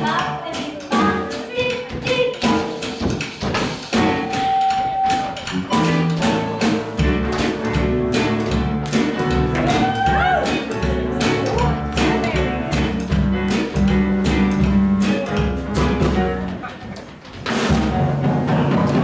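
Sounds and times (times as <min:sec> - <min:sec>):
drum kit beat: 0:00.0 - 0:19.0.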